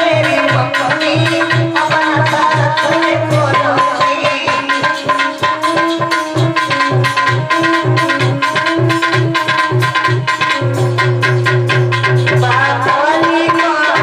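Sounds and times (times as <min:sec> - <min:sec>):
fast drum rhythm: 0:00.0 - 0:14.0
sustained melody line: 0:00.0 - 0:14.0.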